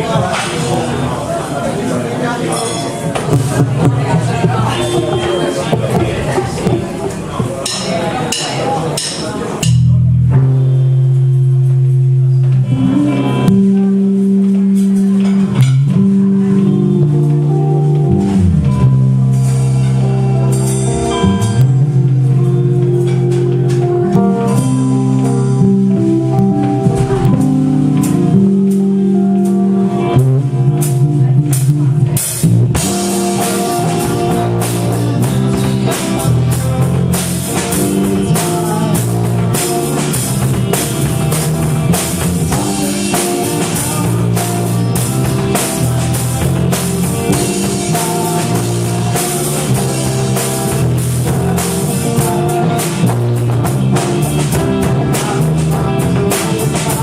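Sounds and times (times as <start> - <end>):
live rock band playing: 0.0 - 57.0
drums and cymbals: 2.5 - 16.4, 17.1 - 57.0
bass line: 3.0 - 57.0.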